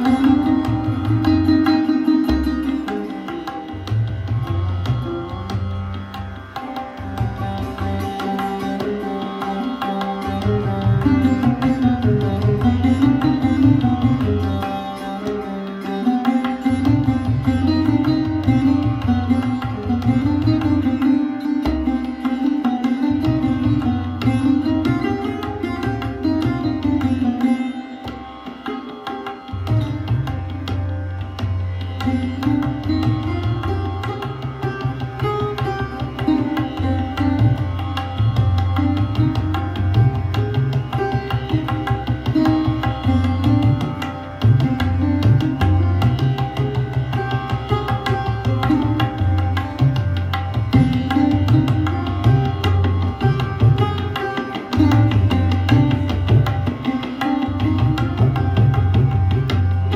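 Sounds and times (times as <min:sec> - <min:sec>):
sarod plucked: 0:00.0 - 0:59.9
tabla drumming: 0:00.0 - 0:59.9.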